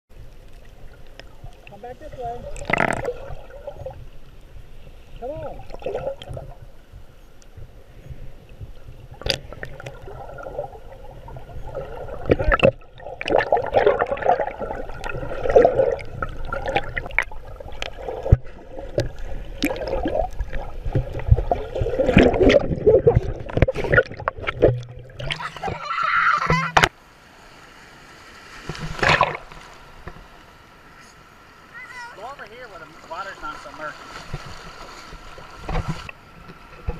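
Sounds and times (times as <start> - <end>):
water sloshing underwater: 0.1 - 36.9.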